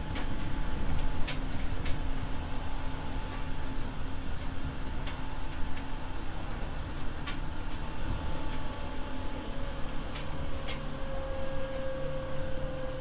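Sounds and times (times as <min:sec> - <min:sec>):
faint steady whine: 0:00.0 - 0:13.0
train car rumble: 0:00.0 - 0:13.0.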